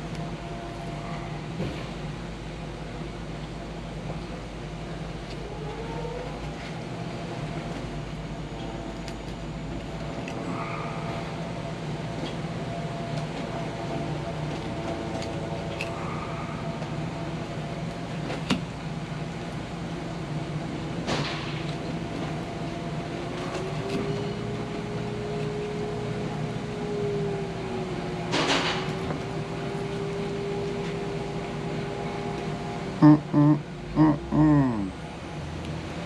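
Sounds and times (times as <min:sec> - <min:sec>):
steady mechanical hum with whine: 0:00.0 - 0:36.0.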